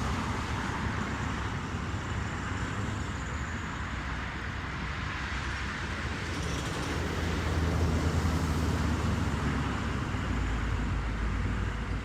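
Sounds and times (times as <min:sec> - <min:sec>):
passing road vehicles: 0:00.0 - 0:12.0.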